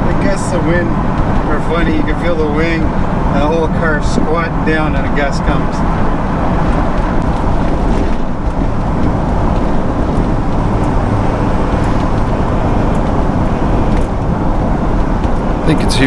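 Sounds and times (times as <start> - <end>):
car engine: 0.0 - 16.0
tyre noise: 0.0 - 16.0
wind noise: 0.0 - 16.0.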